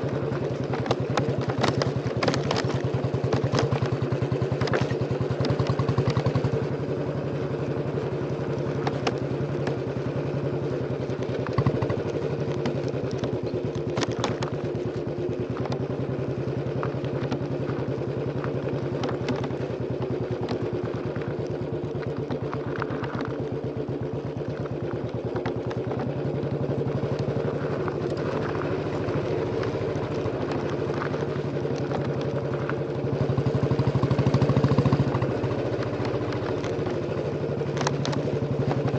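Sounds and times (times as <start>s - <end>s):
motorcycle engine thumping: 0.0s - 38.9s.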